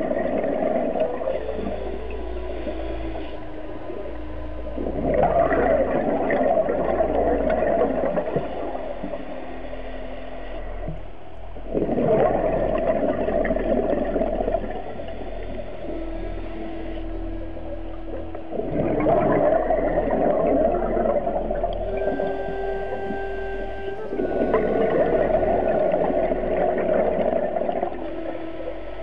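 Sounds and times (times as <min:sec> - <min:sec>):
underwater regulator bubbles: 0:00.0 - 0:09.3, 0:11.6 - 0:29.0.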